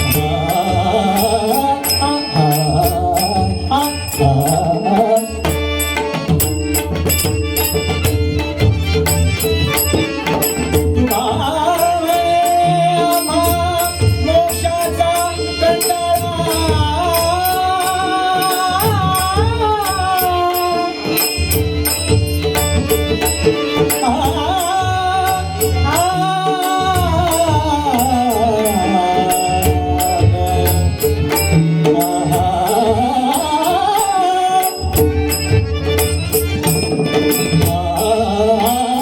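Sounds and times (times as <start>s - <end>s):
hand drum beats: 0.0s - 39.0s.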